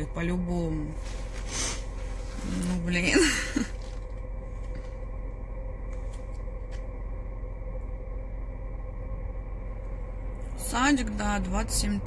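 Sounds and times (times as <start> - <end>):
car idling hum: 0.0 - 12.0.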